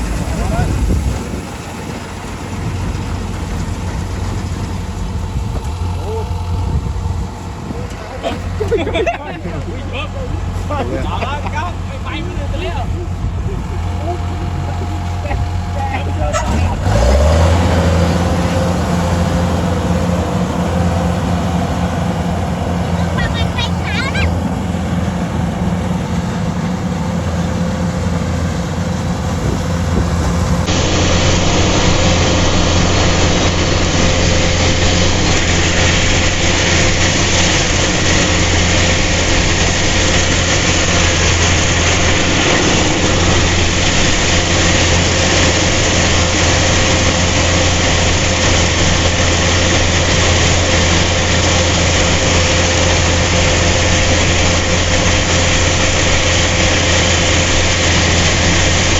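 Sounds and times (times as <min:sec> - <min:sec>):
harvester engine humming: 0:00.0 - 0:58.9.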